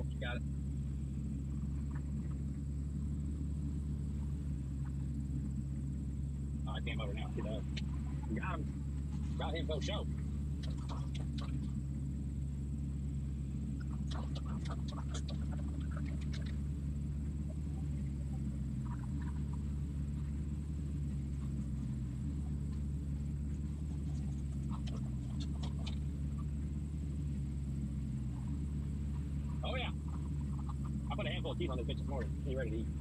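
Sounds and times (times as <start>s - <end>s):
heavy diesel machinery drone: 0.0s - 33.0s.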